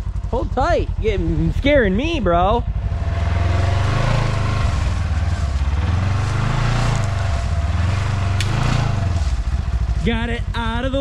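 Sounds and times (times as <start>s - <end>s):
vehicle engine running under load: 0.0s - 11.0s.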